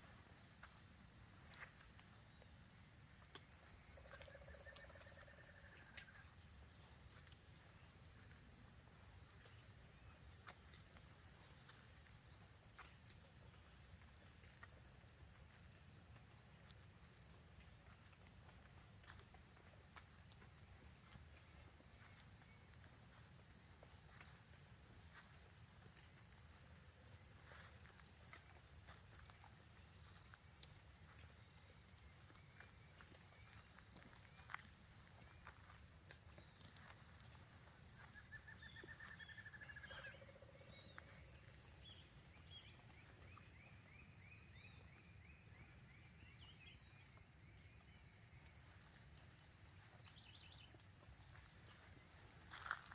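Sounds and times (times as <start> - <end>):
insects trilling: 1.5 - 52.9.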